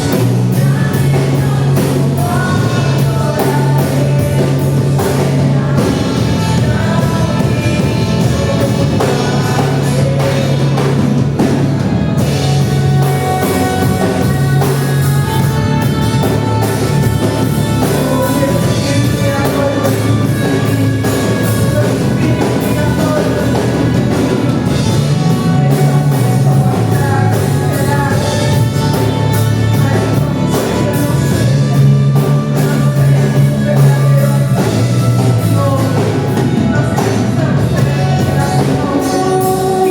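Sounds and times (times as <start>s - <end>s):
live worship band playing: 0.0s - 39.9s
people singing: 0.0s - 39.9s.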